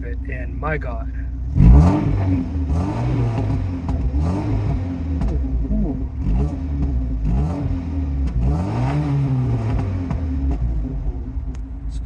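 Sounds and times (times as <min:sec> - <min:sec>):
car engine revving: 0:00.0 - 0:12.0
exhaust popping: 0:00.0 - 0:12.0.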